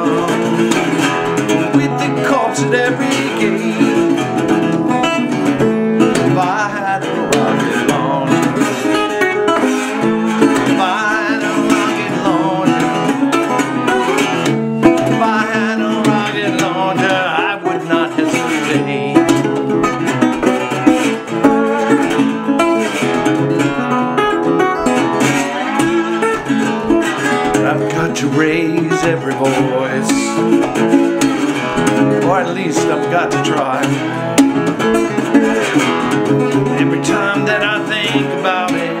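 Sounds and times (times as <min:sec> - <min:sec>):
acoustic guitar picked and strummed: 0:00.0 - 0:39.0.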